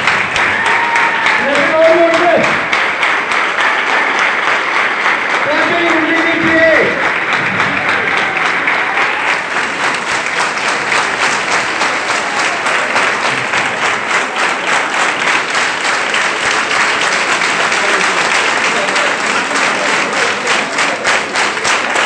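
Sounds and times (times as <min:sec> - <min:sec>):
crowd clapping: 0:00.0 - 0:22.0.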